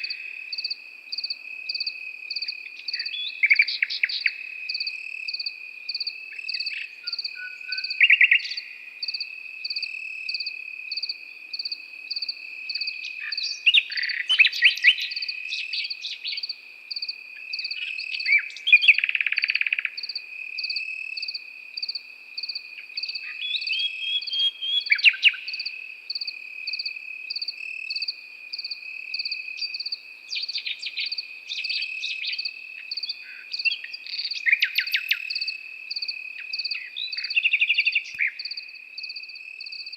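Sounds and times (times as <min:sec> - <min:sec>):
crickets chirping: 0:00.0 - 0:39.9
nightingale singing: 0:00.0 - 0:39.9.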